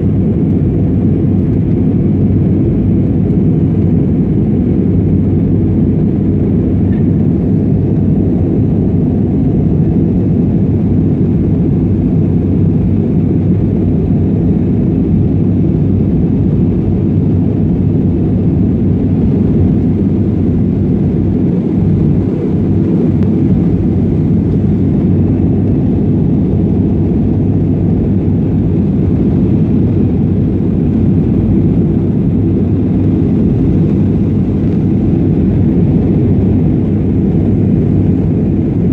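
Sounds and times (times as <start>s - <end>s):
airliner engines rumbling: 0.0s - 38.9s.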